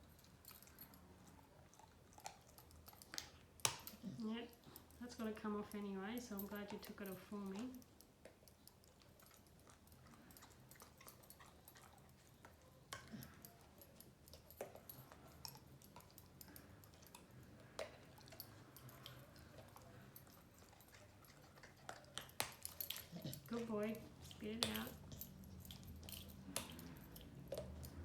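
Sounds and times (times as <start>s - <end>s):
dog chewing on a toy: 0.0s - 28.0s.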